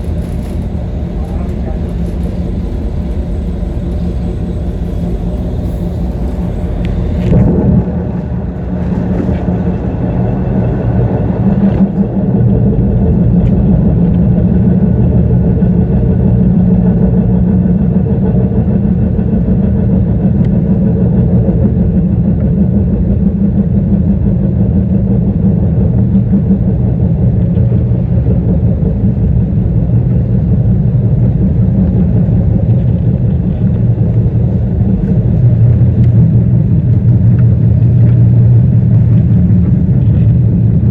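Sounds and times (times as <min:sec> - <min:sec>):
subway train rumbling: 0:00.0 - 0:40.9.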